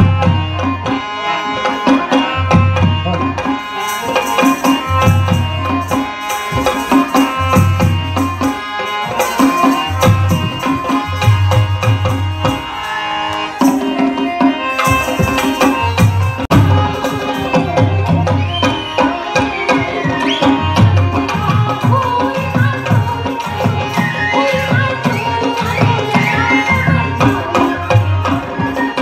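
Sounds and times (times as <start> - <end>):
folk dance music with hand drums: 0.0 - 29.0.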